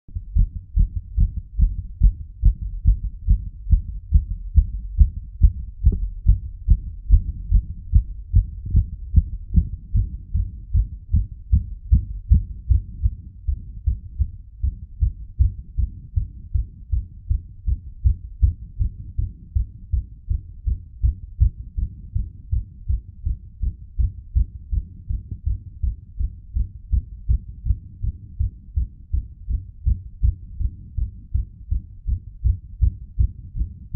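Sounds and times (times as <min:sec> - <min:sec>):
fast heartbeat thumps: 0:00.1 - 0:33.9.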